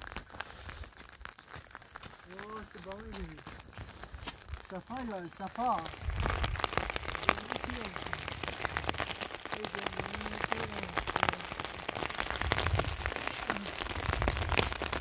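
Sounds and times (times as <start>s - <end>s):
rain falling: 0.0s - 15.0s
raindrops ticking on microphone: 0.0s - 15.0s.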